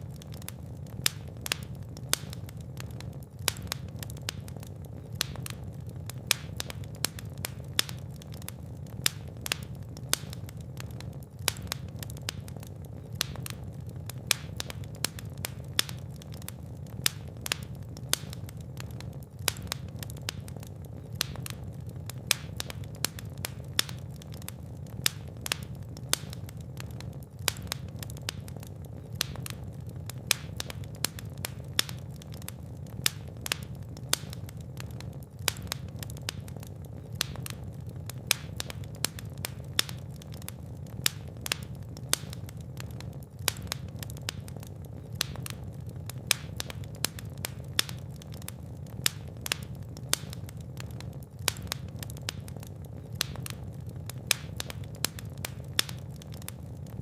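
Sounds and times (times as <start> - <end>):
fire crackling: 0.0 - 57.0
low rumble of flames: 0.0 - 57.0
sharp pops and snaps: 0.0 - 57.0.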